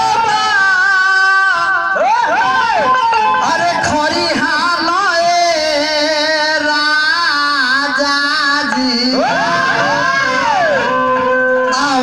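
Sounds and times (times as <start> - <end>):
live stage music melody: 0.0 - 12.0.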